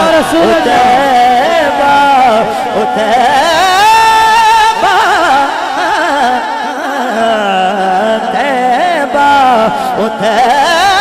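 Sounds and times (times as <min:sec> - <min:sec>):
man singing wordless vocal line: 0:00.0 - 0:11.0.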